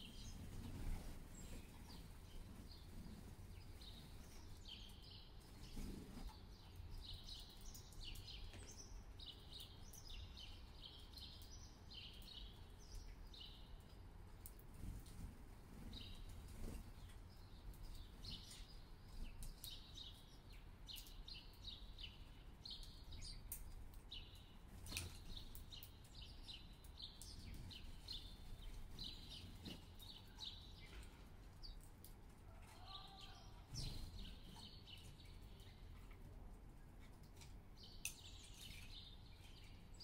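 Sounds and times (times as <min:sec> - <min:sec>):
low rumble of city noise: 0:00.0 - 0:40.0
sparrows chirping: 0:00.0 - 0:40.0.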